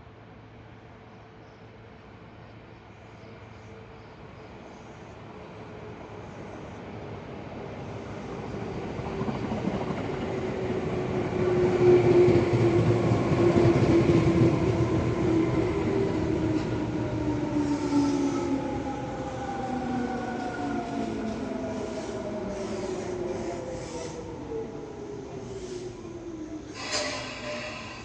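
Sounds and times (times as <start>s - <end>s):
electric train passing: 1.7s - 28.0s.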